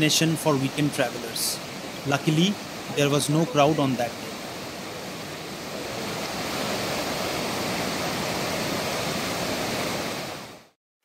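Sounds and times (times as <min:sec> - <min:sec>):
river rushing over boulders: 0:00.0 - 0:10.8.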